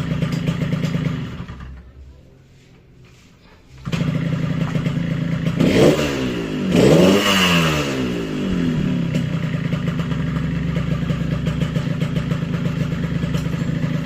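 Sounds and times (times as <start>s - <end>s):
motorcycle engine idling and revving: 0.0s - 2.0s, 3.8s - 14.0s.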